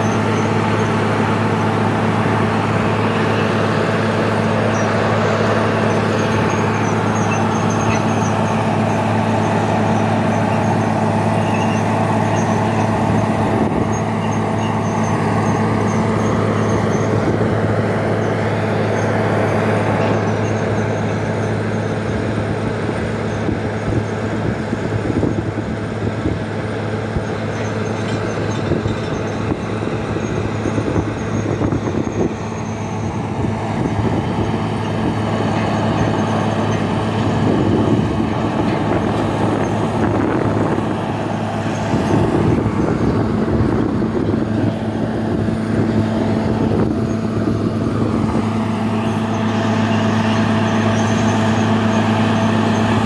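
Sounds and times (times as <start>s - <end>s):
drilling rig diesel engine drone: 0.0s - 53.0s.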